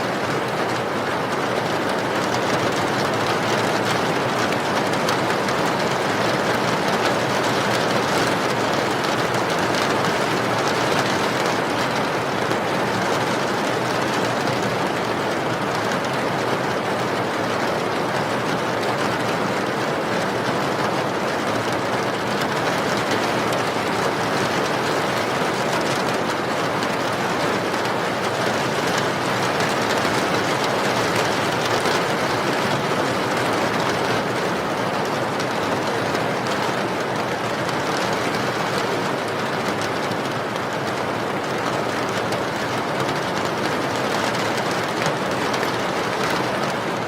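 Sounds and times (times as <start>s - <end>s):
steady rain: 0.0s - 47.0s.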